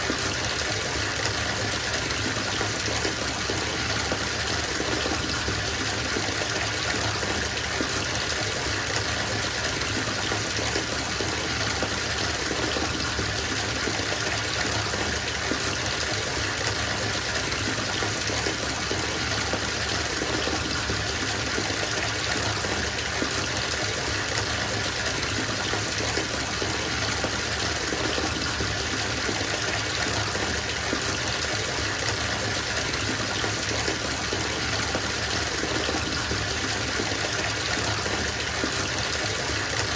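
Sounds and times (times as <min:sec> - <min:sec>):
water pouring into bathtub: 0:00.0 - 0:39.9.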